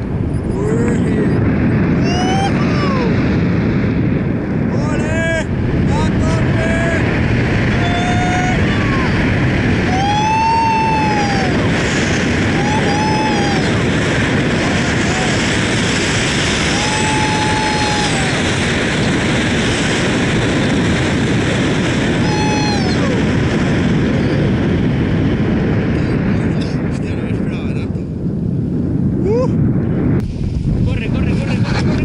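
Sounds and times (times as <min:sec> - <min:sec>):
strong wind on microphone: 0:00.0 - 0:32.0.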